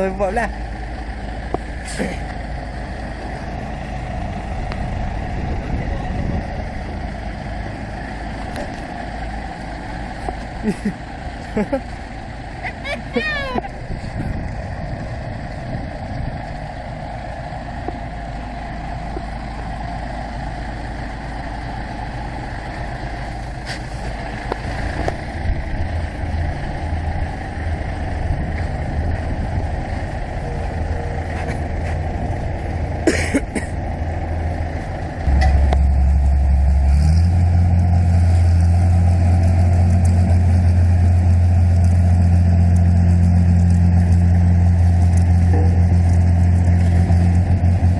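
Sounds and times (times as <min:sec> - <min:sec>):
combine harvester diesel engine: 0:00.0 - 0:47.9
truck idling: 0:00.0 - 0:47.9.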